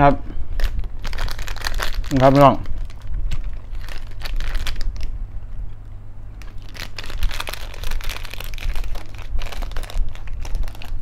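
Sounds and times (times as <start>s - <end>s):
foil pouch crinkling: 0.6s - 5.1s, 6.4s - 11.0s
packet tearing open: 0.6s - 5.1s, 6.4s - 11.0s.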